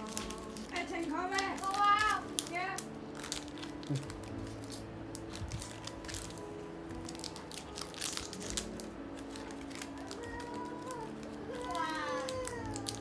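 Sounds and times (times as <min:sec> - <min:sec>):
packaging crinkles and clicks: 0:00.0 - 0:13.0.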